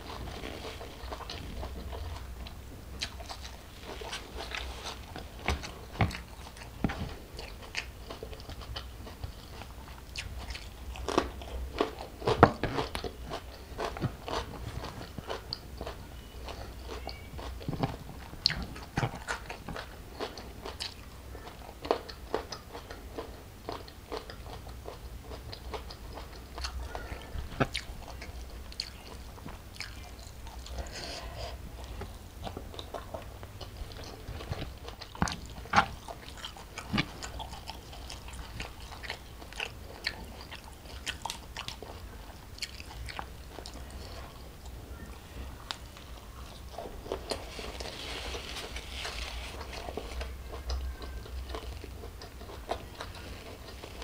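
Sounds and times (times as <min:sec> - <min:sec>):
crunchy chewing of food: 0:00.0 - 0:54.0.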